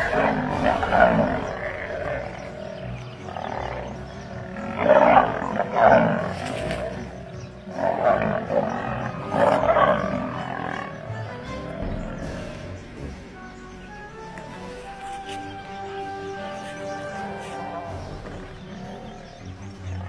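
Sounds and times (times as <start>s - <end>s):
lions snarling and growling: 0.0s - 20.0s.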